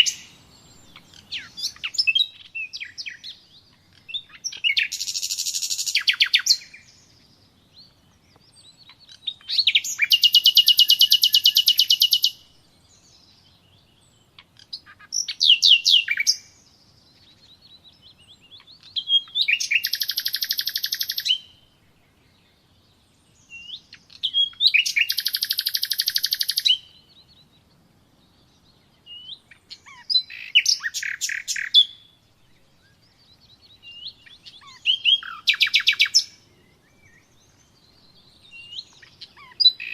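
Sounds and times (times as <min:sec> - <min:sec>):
songbird trilling song: 0:00.0 - 0:39.9.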